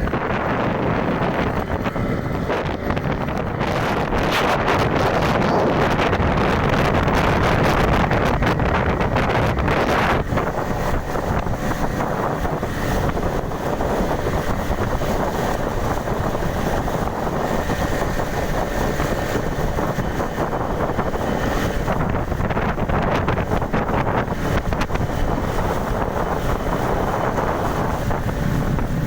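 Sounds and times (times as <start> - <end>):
outboard engine running: 0.0 - 29.0
wind buffeting microphone: 0.0 - 29.0.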